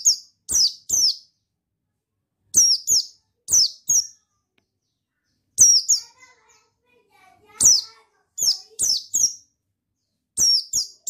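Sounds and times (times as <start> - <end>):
bird high chirps: 0.0 - 1.6, 2.4 - 11.0.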